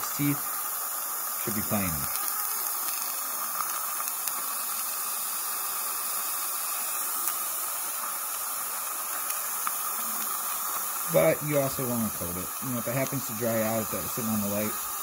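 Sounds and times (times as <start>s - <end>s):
dental suction hissing: 0.0s - 15.0s.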